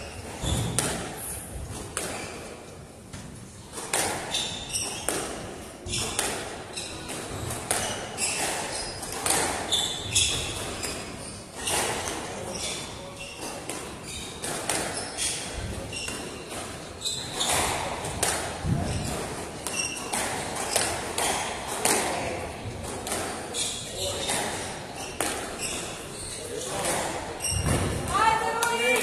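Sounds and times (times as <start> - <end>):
shoes squeaking: 0.0 - 29.0
squash ball smacking: 0.2 - 2.4, 3.6 - 12.2, 13.4 - 25.9, 26.6 - 28.8.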